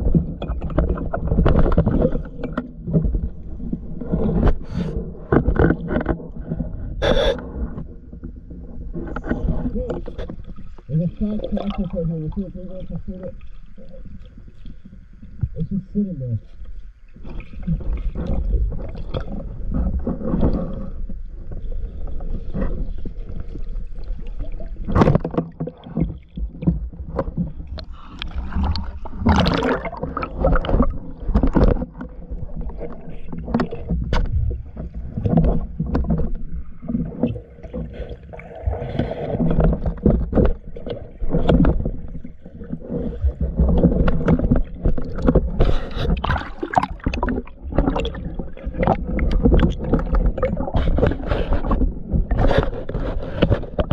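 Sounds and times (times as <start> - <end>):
knocks underwater: 0.0 - 12.4, 17.2 - 53.9
muffled underwater sloshing and gurgling: 0.0 - 53.9
water splashing: 9.0 - 53.9.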